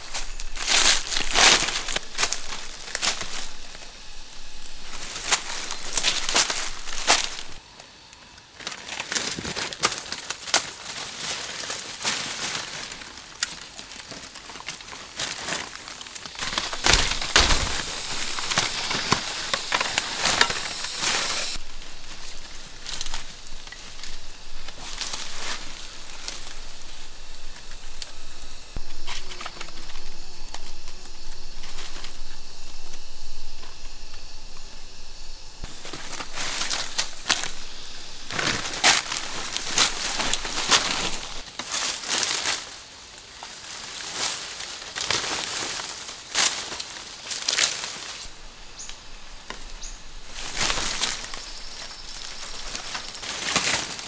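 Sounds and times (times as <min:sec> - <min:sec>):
leaves and branches rustling: 0:00.0 - 0:54.0.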